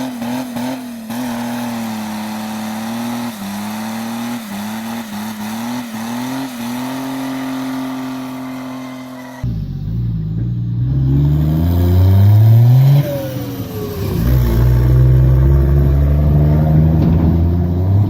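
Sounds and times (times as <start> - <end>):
diesel engine accelerating hard: 0.0 - 18.0.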